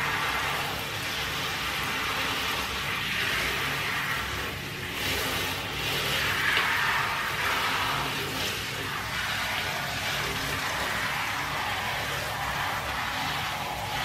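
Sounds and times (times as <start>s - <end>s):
shower water spraying: 0.0s - 14.0s.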